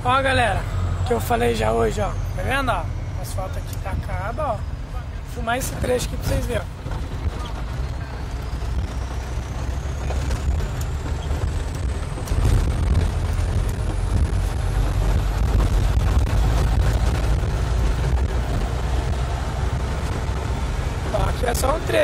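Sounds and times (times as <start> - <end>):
truck engine drone: 0.0 - 22.0
tyre and road rumble: 0.0 - 22.0.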